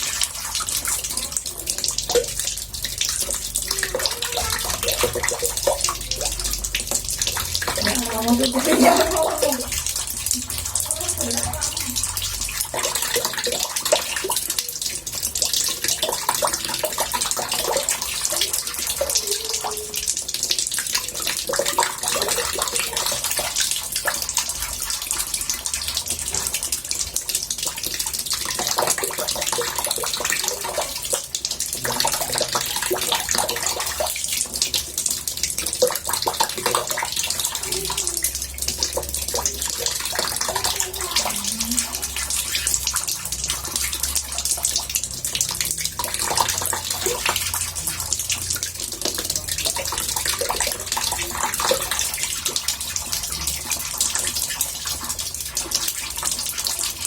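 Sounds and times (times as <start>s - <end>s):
tap water pouring into bathtub: 0.0s - 57.0s.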